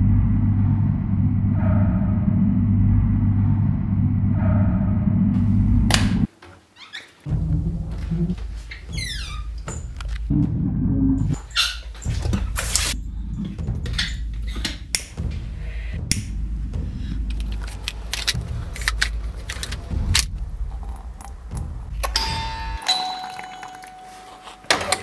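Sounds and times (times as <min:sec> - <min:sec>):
steady low hum: 0:00.0 - 0:06.3, 0:07.3 - 0:22.4.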